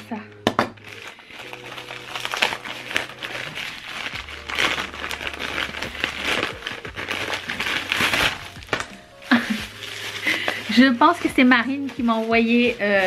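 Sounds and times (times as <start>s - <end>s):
envelope being torn open: 0.8s - 13.0s
paper crinkling and rustling: 0.8s - 13.0s.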